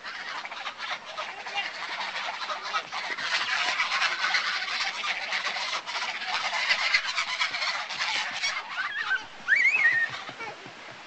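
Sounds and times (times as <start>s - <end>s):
geese honking: 0.0s - 10.4s.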